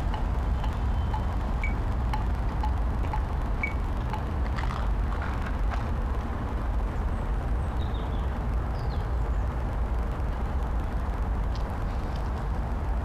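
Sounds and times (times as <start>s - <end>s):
steady low city rumble: 0.0s - 13.0s.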